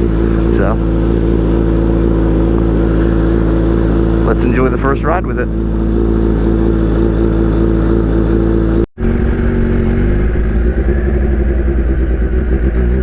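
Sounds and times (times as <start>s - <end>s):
motorcycle engine running loud: 0.0s - 13.0s.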